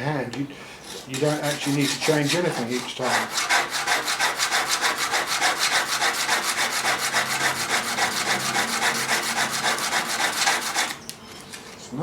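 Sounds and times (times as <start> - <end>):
chisel scraping on sharpening stone: 0.8 - 11.0.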